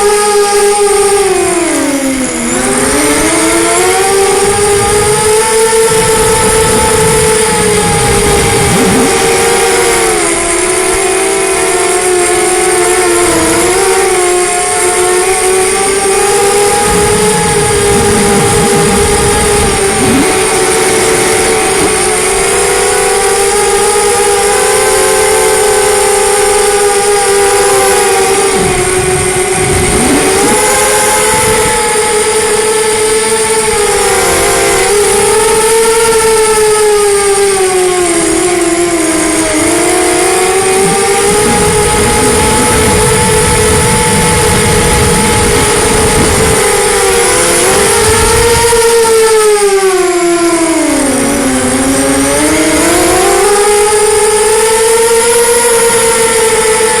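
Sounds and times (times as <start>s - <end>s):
quadcopter motors whining: 0.0s - 57.0s
wind buffeting microphone: 0.0s - 57.0s.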